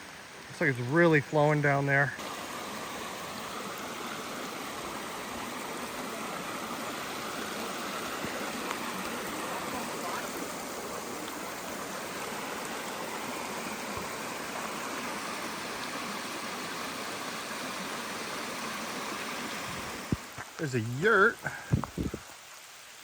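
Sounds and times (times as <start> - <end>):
river rushing: 0.0 - 22.6.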